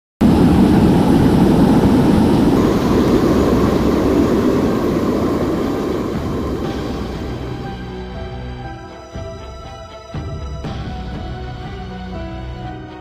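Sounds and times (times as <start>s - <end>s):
aircraft engine rushing: 0.2s - 12.0s.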